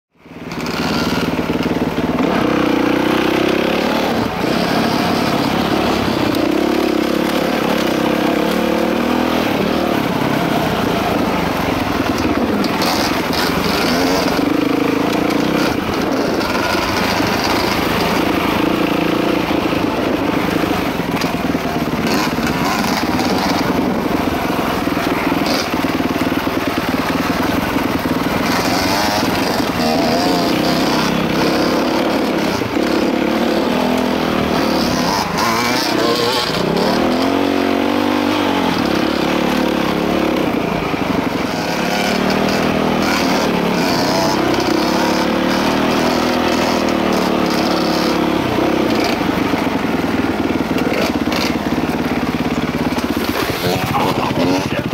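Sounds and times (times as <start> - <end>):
dirt bike engine revving: 0.2 - 54.9.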